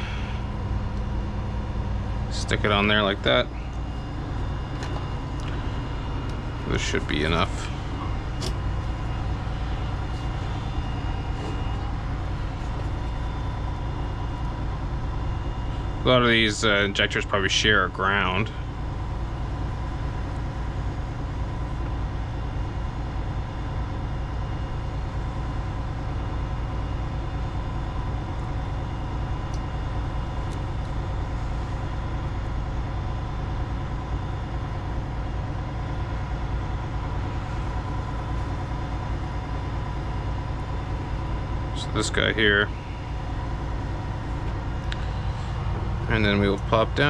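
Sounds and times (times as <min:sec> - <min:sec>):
faint constant tones: 0:00.0 - 0:47.0
low engine-like drone: 0:00.0 - 0:47.0.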